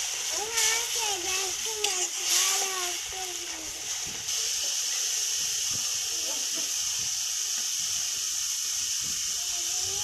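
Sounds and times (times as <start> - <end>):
paste sizzling in hot oil: 0.0 - 10.0.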